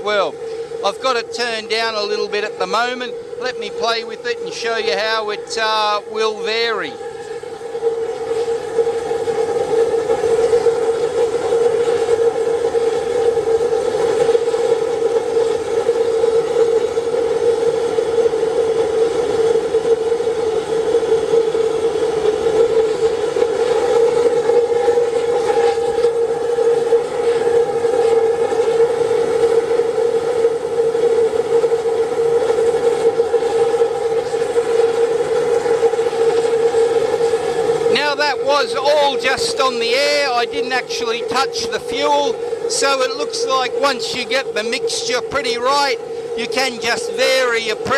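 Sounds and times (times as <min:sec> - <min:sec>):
oil burner flame roaring: 0:00.0 - 0:47.9.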